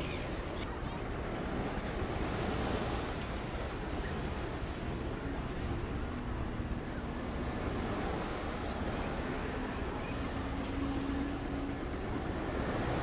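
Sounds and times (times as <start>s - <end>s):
boat engine rumble: 0.0s - 13.0s
harbour water: 0.0s - 13.0s
wind: 0.0s - 13.0s.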